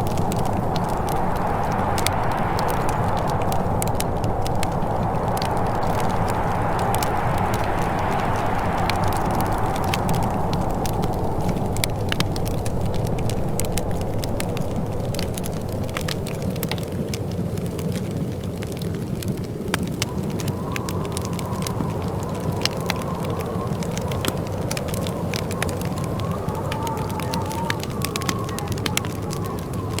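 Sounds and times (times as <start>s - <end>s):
faint wavering wind whistle: 0.0s - 18.3s, 19.2s - 30.0s
low rumble of burning: 0.0s - 30.0s
wood fire crackling: 0.0s - 30.0s.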